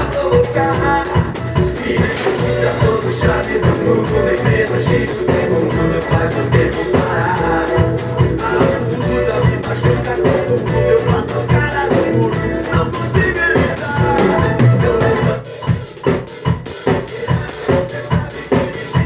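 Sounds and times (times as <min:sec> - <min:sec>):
drum kit playing along: 0:00.0 - 0:19.0
upbeat recorded band music: 0:00.0 - 0:19.0.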